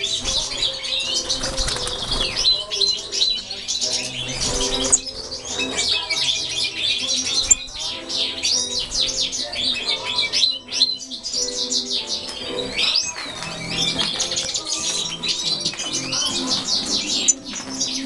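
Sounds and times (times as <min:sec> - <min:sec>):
goldfinches twittering: 0:00.0 - 0:18.0.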